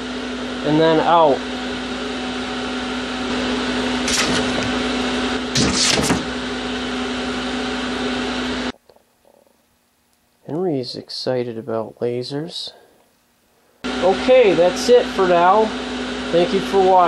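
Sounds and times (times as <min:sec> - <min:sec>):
cooling fan whirring hum: 0:00.0 - 0:17.0.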